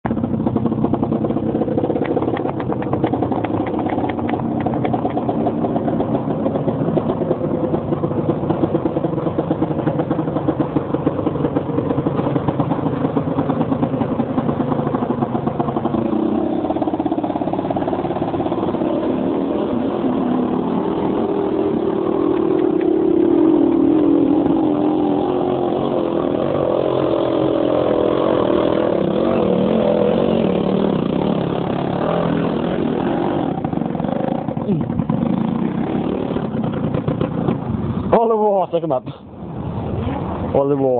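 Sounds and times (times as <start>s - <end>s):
two-stroke engine revving: 0.1s - 40.8s.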